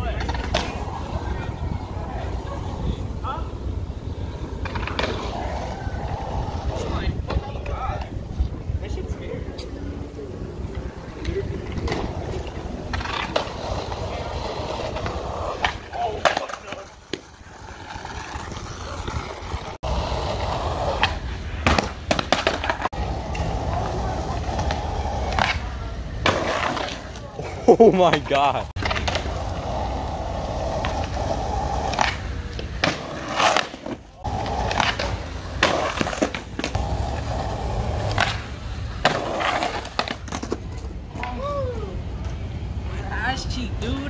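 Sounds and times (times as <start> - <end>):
skateboard clacking on ground: 0.0 - 2.8, 4.5 - 8.2, 10.7 - 27.3, 28.0 - 41.5
skateboard wheels rolling on concrete: 0.0 - 44.0.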